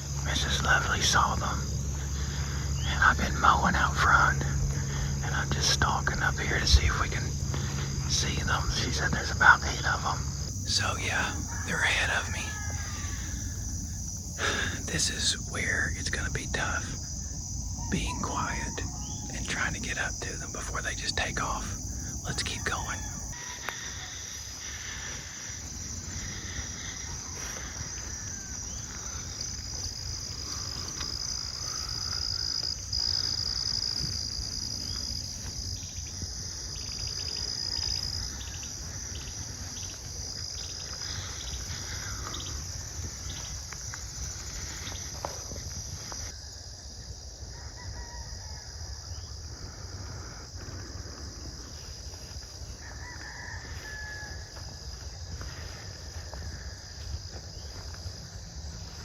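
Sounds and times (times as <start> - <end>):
insects chirring: 0.0 - 59.0
rapid pulsed insect calls: 0.0 - 59.0.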